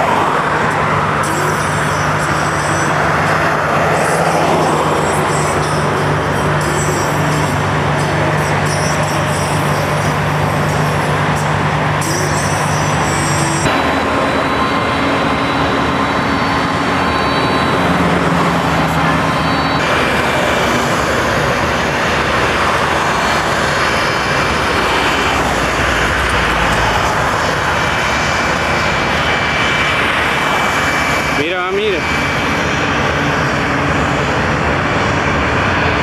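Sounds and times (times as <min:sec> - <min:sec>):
jet engine roar: 0:00.0 - 0:36.0
road traffic: 0:00.0 - 0:36.0.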